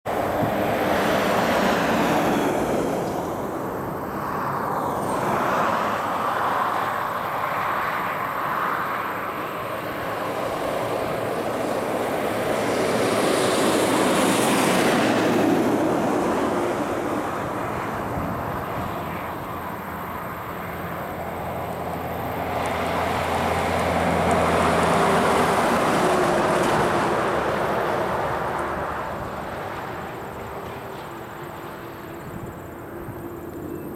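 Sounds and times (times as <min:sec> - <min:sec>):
heavy trucks driving past: 0:00.1 - 0:33.9.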